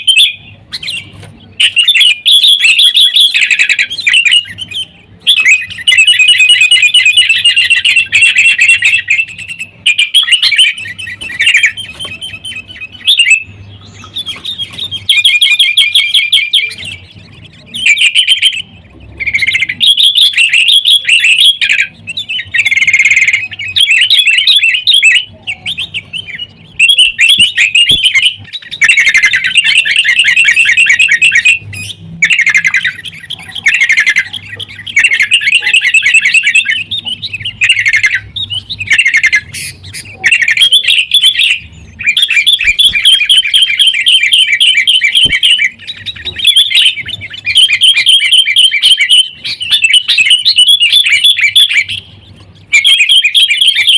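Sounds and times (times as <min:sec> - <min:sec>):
bulbuls chattering calls: 0:00.0 - 0:53.9.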